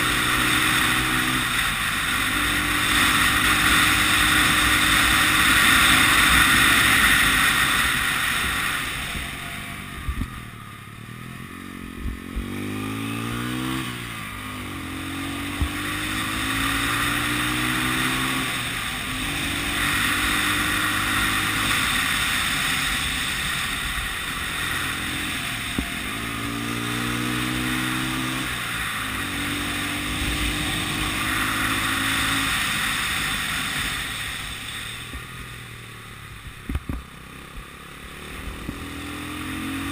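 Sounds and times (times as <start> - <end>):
motorcycle engine pulling under throttle: 0.0 - 39.9.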